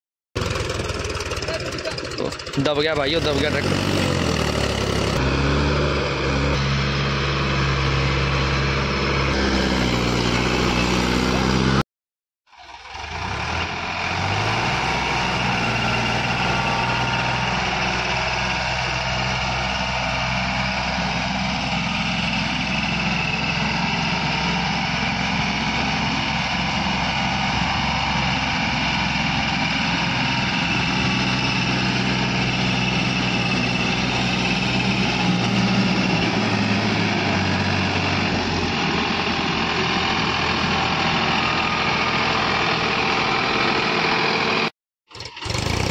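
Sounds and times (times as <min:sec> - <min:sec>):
tractor diesel engine under load: 0:00.4 - 0:11.8, 0:12.5 - 0:45.9.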